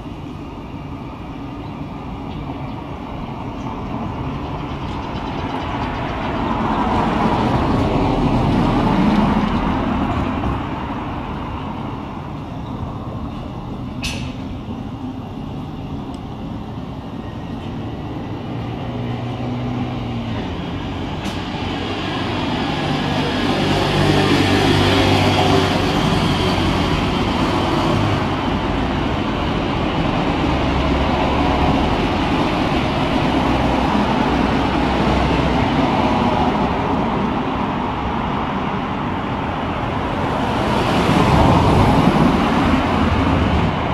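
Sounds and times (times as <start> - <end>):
road traffic driving past: 0.0 - 43.9.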